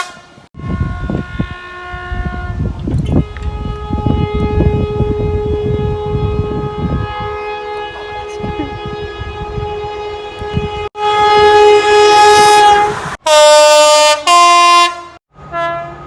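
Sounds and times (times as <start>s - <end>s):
passing train rumble and clatter: 0.0s - 16.0s
train horn: 0.0s - 16.0s.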